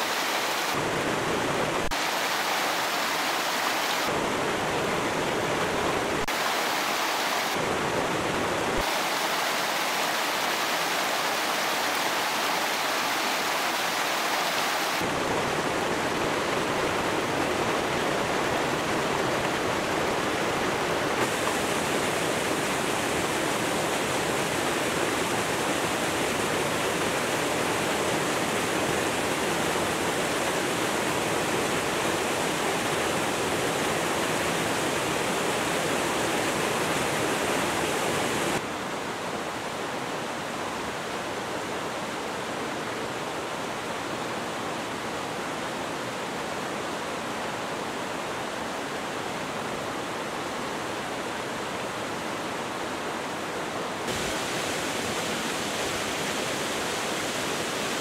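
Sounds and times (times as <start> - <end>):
river rushing over boulders: 0.0 - 58.0.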